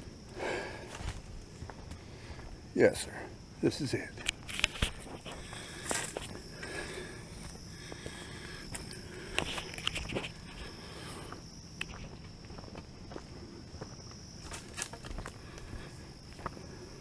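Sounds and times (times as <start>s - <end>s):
high insect hum: 0.0s - 17.0s
footsteps crunching on trail: 0.2s - 2.7s, 4.2s - 16.8s.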